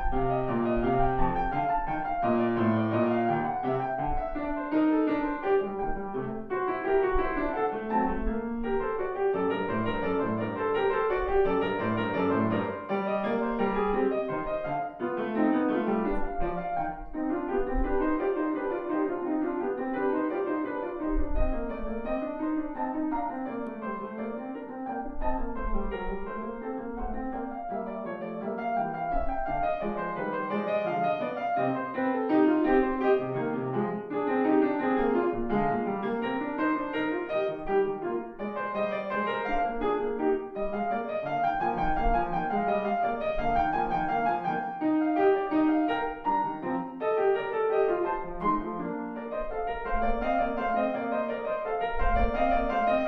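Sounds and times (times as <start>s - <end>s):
classical piano music: 0.0s - 53.0s.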